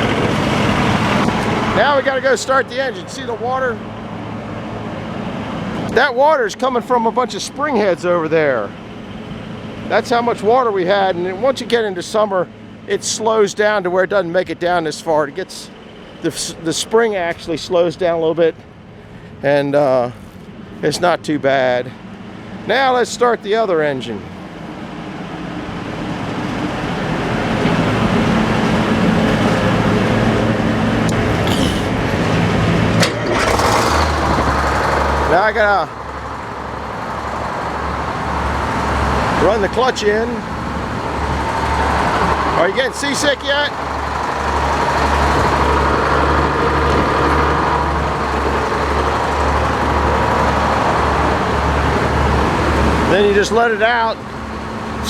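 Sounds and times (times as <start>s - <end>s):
engine running steadily: 0.0s - 55.0s
steady whine: 0.0s - 55.0s.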